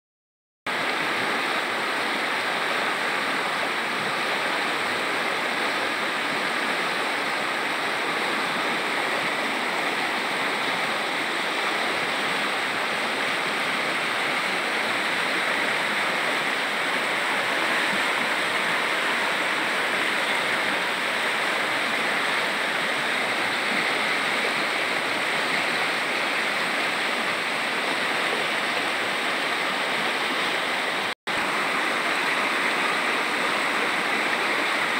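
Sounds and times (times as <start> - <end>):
river rushing over stones: 0.7 - 34.9.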